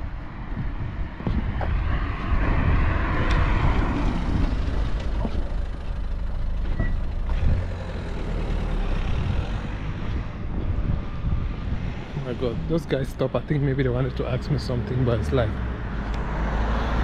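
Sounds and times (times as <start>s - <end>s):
heavy vehicle engine rumble: 0.0s - 17.0s.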